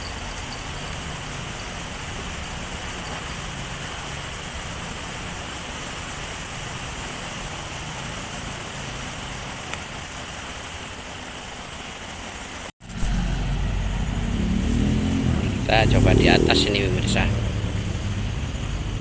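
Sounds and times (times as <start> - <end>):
running river water: 0.0 - 19.0.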